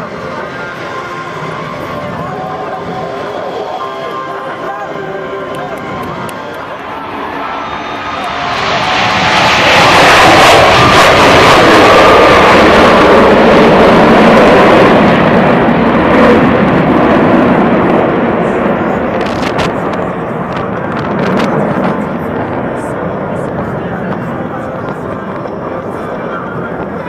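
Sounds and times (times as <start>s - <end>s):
jet engines roaring: 0.0s - 27.0s
thin jet whine: 0.0s - 27.0s.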